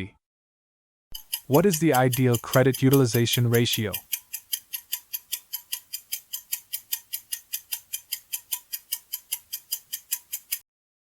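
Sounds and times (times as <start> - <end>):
fast clock ticking: 1.2 - 10.6.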